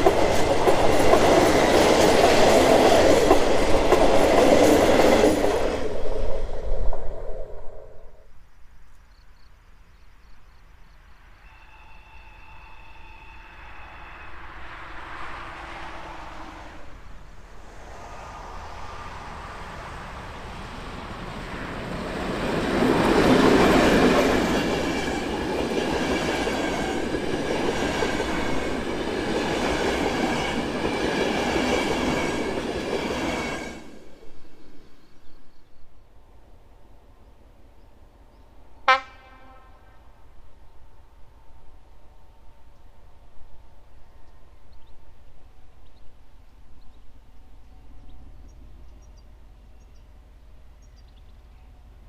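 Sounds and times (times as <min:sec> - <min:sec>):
diesel train passing: 0:00.0 - 0:08.3, 0:11.0 - 0:52.0
rail noise: 0:00.0 - 0:08.8, 0:10.3 - 0:52.0.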